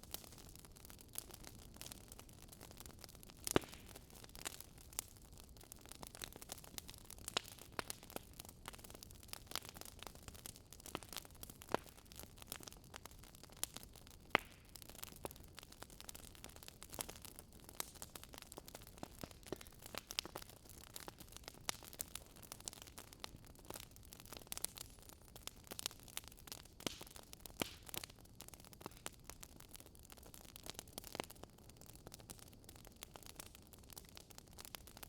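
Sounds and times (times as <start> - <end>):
campfire crackling and popping: 0.0 - 35.0.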